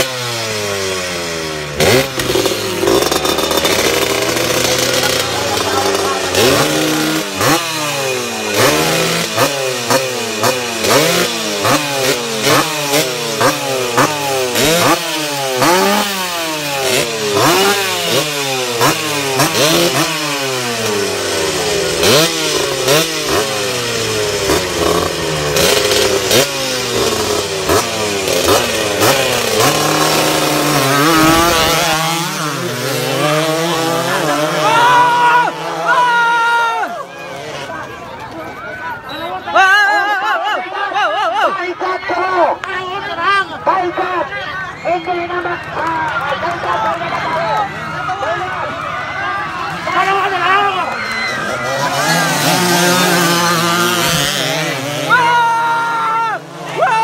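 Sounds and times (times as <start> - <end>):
motorcycle accelerating away: 0.0 - 38.7, 49.6 - 57.0
motorcycle engines revving: 0.0 - 57.0.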